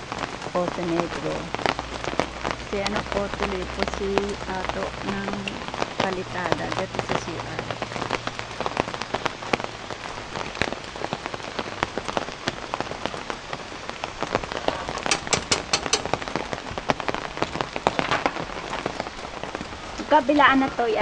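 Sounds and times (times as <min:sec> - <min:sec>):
rain dripping on hard surfaces: 0:00.0 - 0:21.0.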